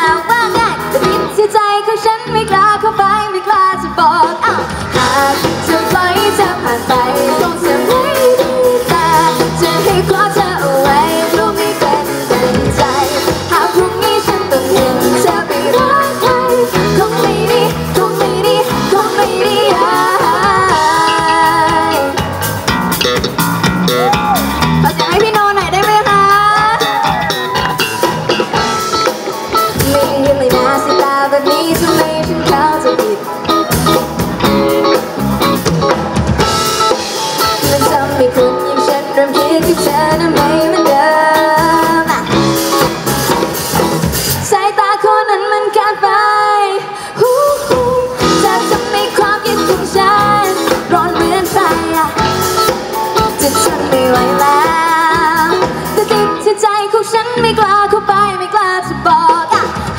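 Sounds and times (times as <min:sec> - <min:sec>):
live band playing pop song: 0:00.0 - 0:59.9.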